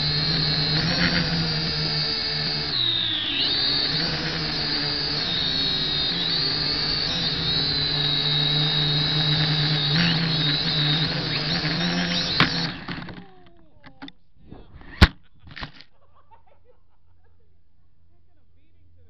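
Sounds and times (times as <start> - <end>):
drone motors whining: 0.0 - 15.7.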